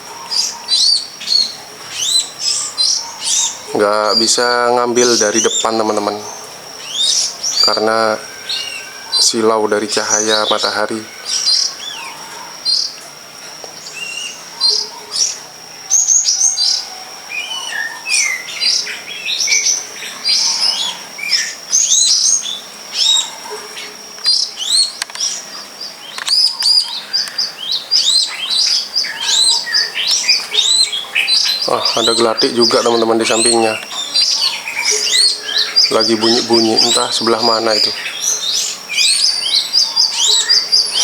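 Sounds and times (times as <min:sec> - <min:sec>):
songbirds chirping: 0:00.0 - 0:41.0
steady high-pitched whine: 0:00.0 - 0:41.0.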